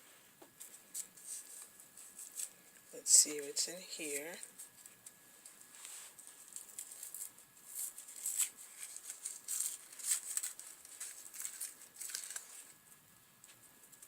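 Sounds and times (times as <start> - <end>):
packaging rustling and crinkling: 0.5 - 2.9, 4.1 - 14.0.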